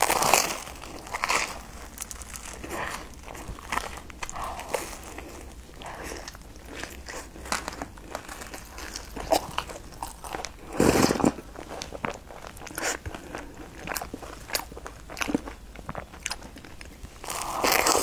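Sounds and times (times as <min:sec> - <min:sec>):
crunchy bread chewing: 0:00.0 - 0:18.0.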